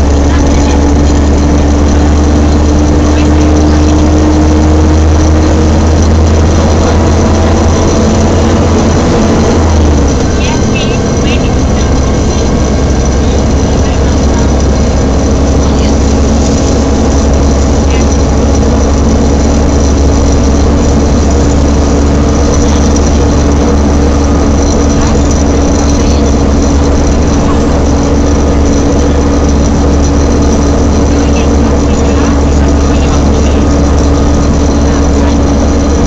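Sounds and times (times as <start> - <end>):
bus engine drone: 0.0 - 36.0
thin high whine: 0.0 - 36.0.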